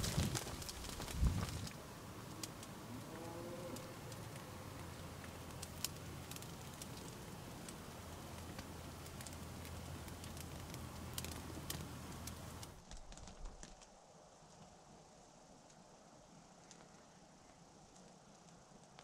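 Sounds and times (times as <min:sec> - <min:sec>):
small clicks and ticks: 0:00.0 - 0:14.8, 0:16.5 - 0:19.0.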